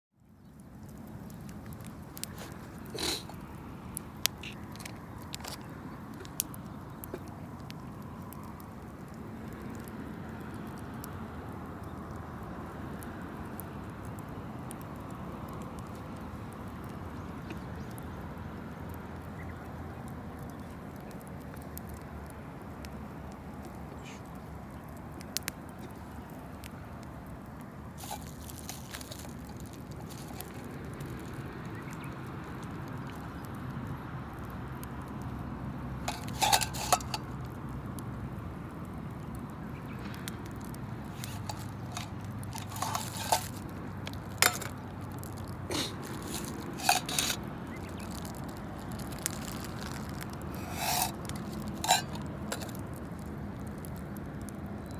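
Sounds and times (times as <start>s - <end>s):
campfire crackling and popping: 0.2s - 54.9s
fire low hiss: 0.6s - 54.9s.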